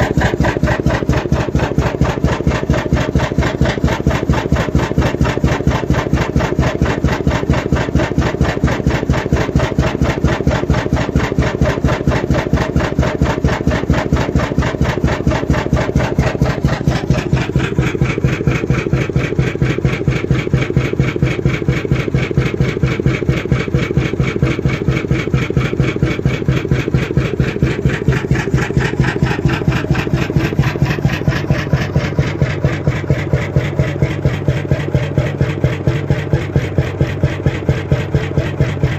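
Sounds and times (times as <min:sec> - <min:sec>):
oil engine clattering: 0:00.0 - 0:38.9.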